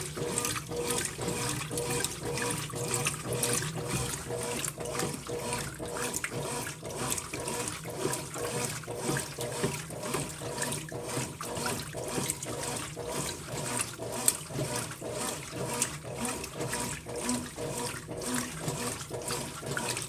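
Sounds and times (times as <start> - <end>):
water sloshing in washing machine: 0.0 - 20.0.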